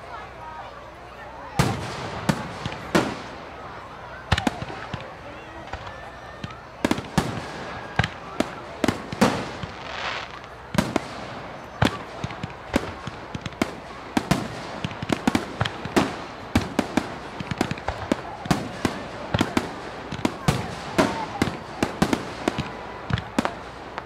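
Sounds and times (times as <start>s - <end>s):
fireworks bangs and crackle: 0.0s - 24.0s.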